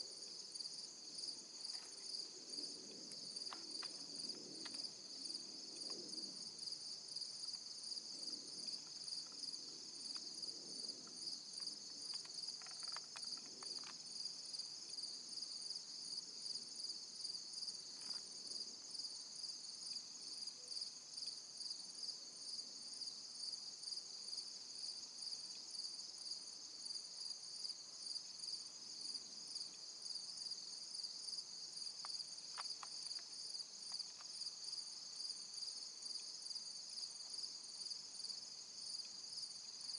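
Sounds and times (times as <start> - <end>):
insects trilling: 0.0 - 21.8, 23.0 - 39.9.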